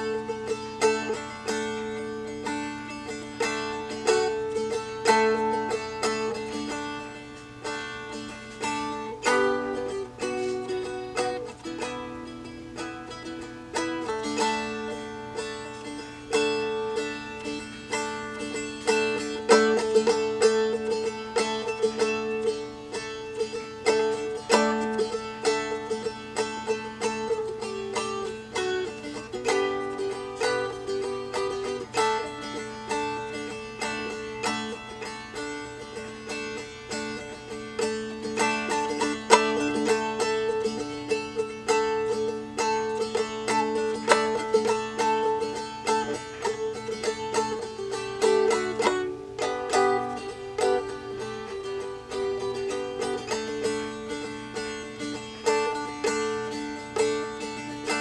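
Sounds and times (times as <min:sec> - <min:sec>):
plucked dulcimer tune: 0:00.0 - 0:58.0.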